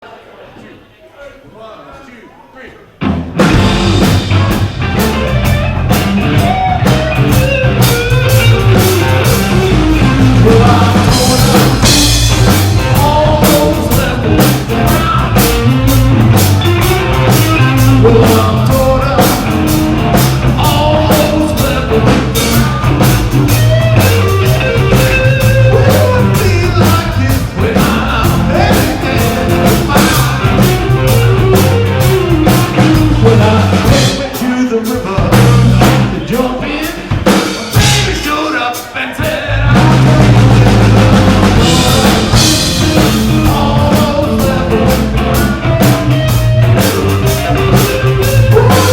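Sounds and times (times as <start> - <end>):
drum kit with cymbals: 3.0 - 48.9
guitar: 3.0 - 48.9
person singing: 6.4 - 48.9.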